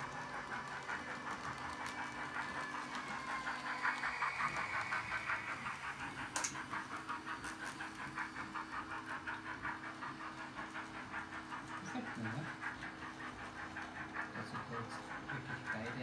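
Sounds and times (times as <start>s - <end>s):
model locomotives humming: 0.0s - 16.0s
steam chuff rhythm: 0.0s - 16.0s.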